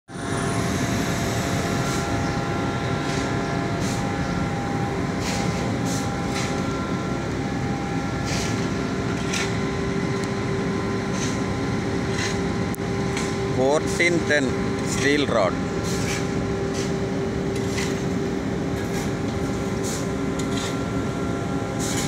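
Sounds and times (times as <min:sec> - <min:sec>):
machinery humming: 0:00.1 - 0:22.0.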